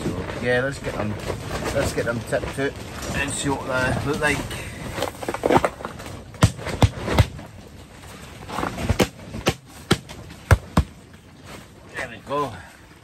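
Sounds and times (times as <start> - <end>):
steady wind: 0.0 - 13.0.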